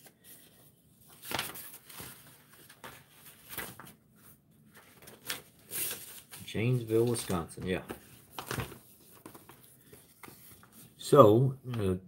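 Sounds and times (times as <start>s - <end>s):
paper rustling: 0.0s - 11.9s.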